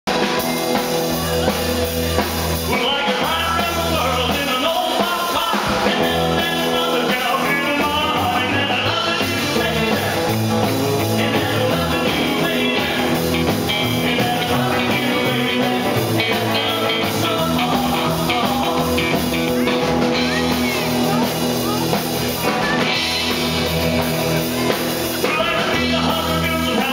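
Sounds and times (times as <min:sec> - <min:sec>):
drum kit: 0:00.0 - 0:26.9
electric guitars: 0:00.1 - 0:26.9
man singing: 0:01.2 - 0:20.6, 0:24.0 - 0:26.9.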